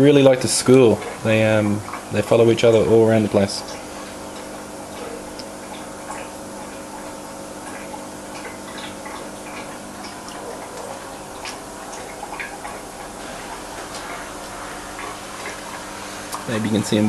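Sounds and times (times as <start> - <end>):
aquarium pump humming: 0.0 - 17.0
water ticks and drips: 0.0 - 17.0.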